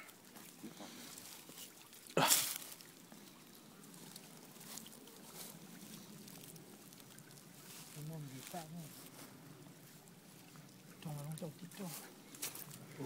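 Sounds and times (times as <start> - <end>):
faint rustles and clicks: 0.0 - 13.0.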